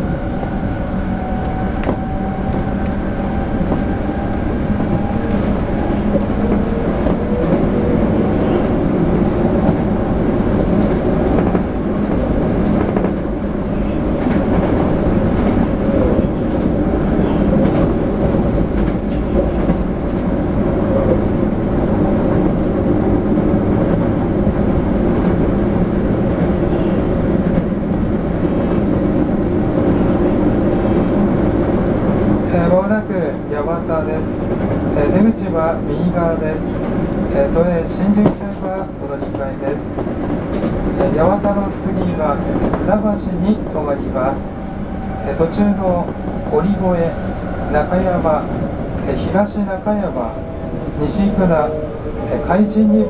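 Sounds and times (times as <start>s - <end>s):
rumble of wheels on rail: 0.0s - 53.0s.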